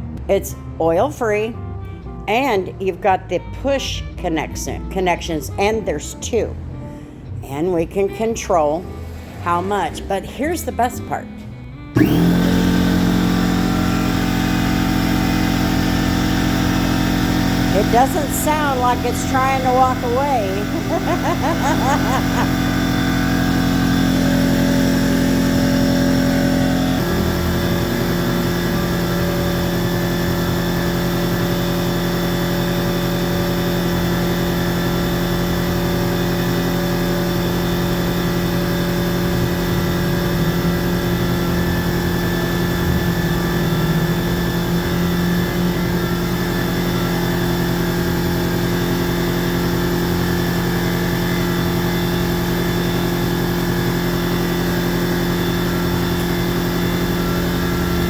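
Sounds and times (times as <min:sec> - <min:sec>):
air compressor droning: 0:06.6 - 0:58.0.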